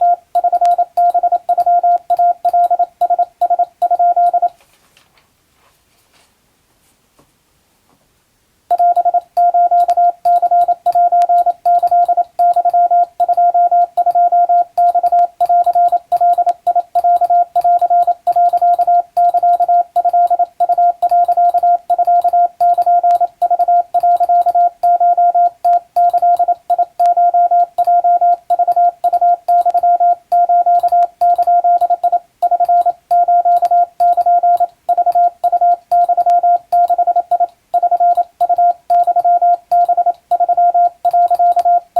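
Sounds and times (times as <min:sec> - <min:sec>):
morse code beep tone: 0:00.0 - 0:04.6, 0:08.7 - 0:41.9.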